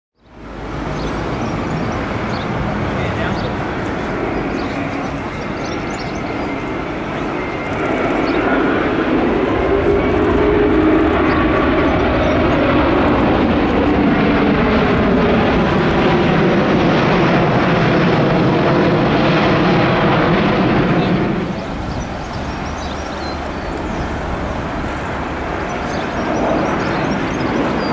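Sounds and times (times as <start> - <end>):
jet engine noise: 0.2 - 27.9
low jet whine: 0.2 - 27.9.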